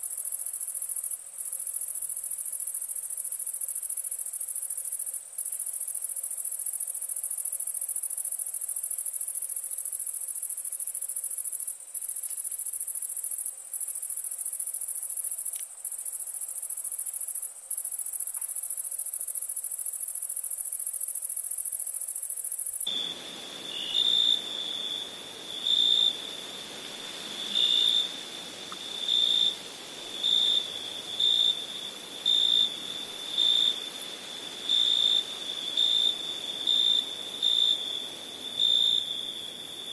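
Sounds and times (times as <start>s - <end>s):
high-pitched cricket trill: 0.0s - 39.9s
low cricket chirp pulses: 0.2s - 39.9s.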